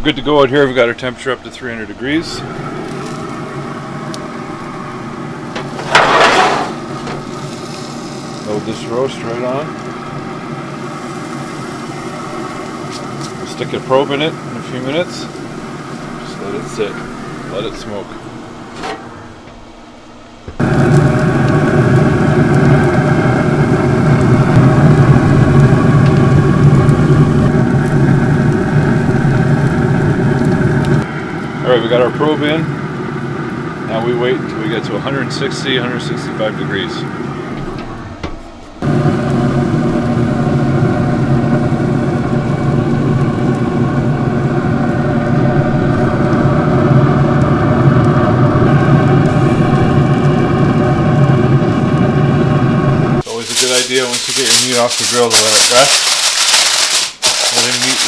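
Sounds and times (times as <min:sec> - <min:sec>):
grill fan humming: 0:00.0 - 0:58.0.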